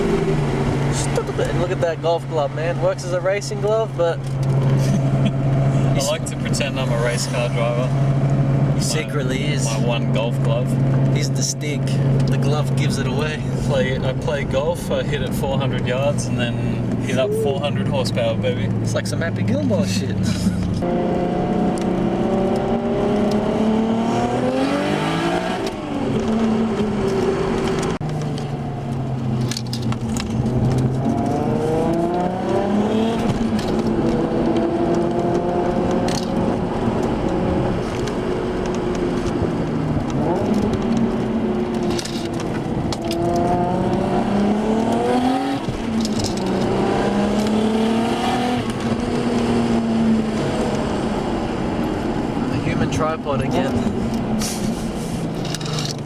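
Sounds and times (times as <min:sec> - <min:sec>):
car engine revving through gears: 0:00.0 - 0:56.0
exhaust crackles: 0:00.0 - 0:56.0.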